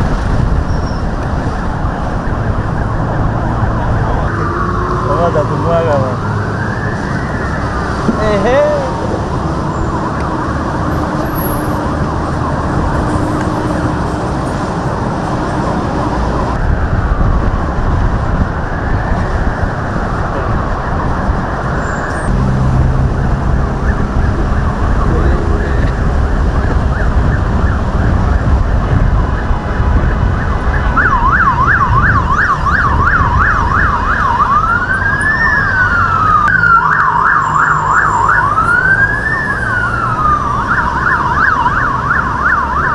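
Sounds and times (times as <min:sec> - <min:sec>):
traffic and engine noise: 0:00.0 - 0:42.9
sirens wailing and yelping: 0:00.4 - 0:42.9.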